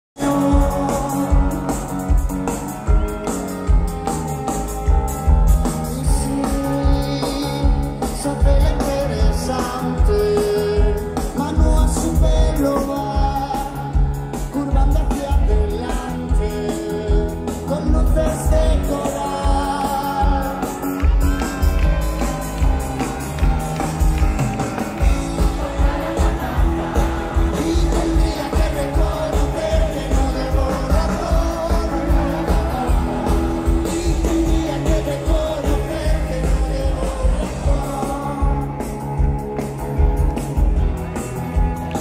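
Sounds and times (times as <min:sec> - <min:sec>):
person singing: 0:00.2 - 0:22.8, 0:25.0 - 0:39.4
bass guitar: 0:00.2 - 0:42.0
drums playing a driving beat: 0:00.2 - 0:42.0
electric guitar: 0:00.2 - 0:42.0.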